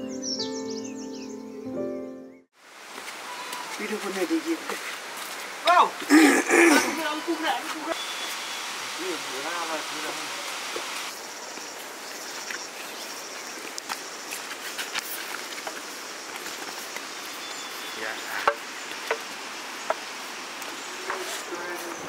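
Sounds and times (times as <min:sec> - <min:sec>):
insects chirping: 0:02.6 - 0:22.0
steady hiss: 0:02.6 - 0:22.0.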